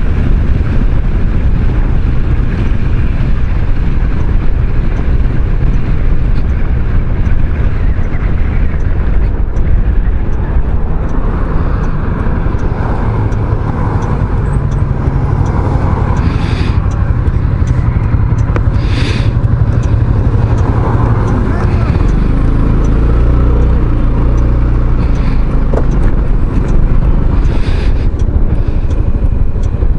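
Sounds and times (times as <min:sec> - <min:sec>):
scooter engine hum: 0:00.0 - 0:29.9
wind rumble on microphone: 0:00.0 - 0:29.9.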